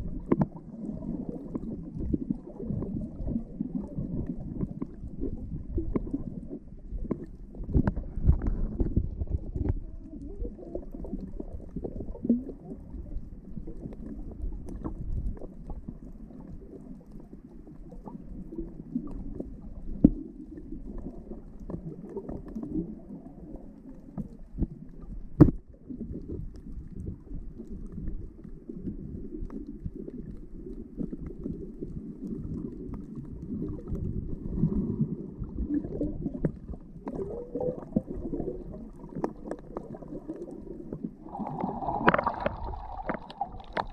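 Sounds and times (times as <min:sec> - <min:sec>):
underwater water rumbling: 0:00.0 - 0:43.9.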